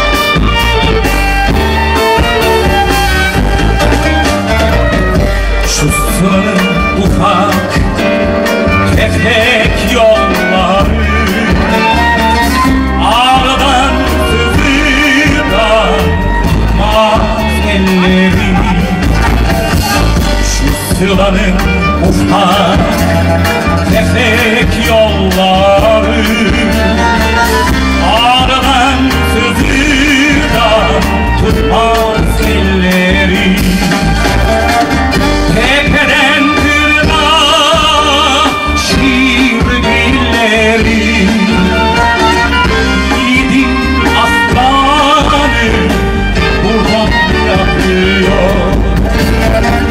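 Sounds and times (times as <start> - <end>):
backing band with low beat: 0.0 - 49.9
tenor singing with vibrato: 0.0 - 49.9
violin: 0.0 - 49.9.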